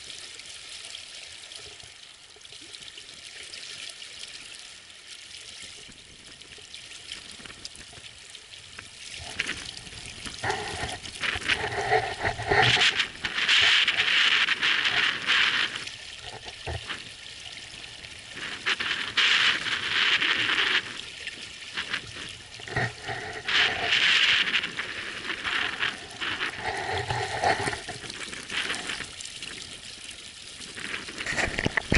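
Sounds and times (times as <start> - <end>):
water splashing along boat hull: 5.4 - 31.9.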